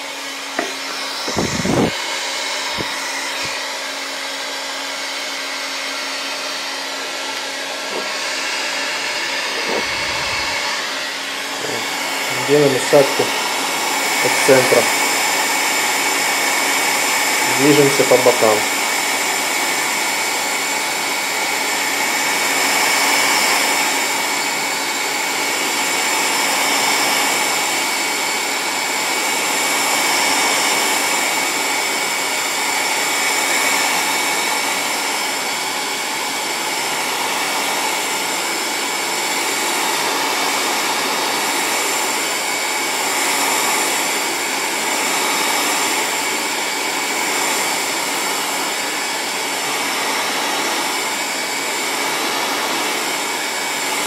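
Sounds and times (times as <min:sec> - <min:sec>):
hot-air blower hissing: 0:00.0 - 0:54.0.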